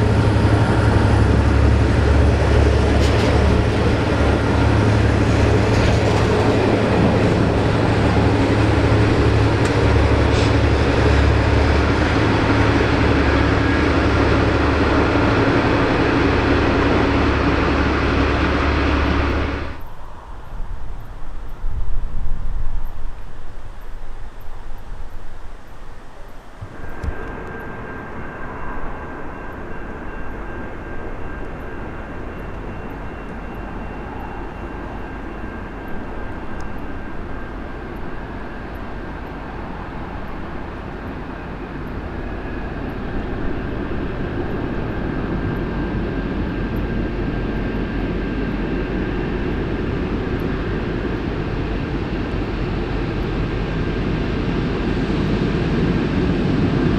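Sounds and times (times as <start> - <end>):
locomotive engine rumbling: 0.0 - 21.9, 26.0 - 56.9
steady whine: 0.0 - 56.9.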